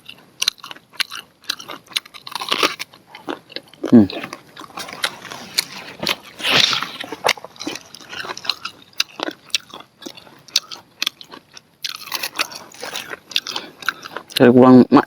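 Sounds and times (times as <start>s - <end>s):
chewing and biting corn on the cob: 0.0s - 14.7s.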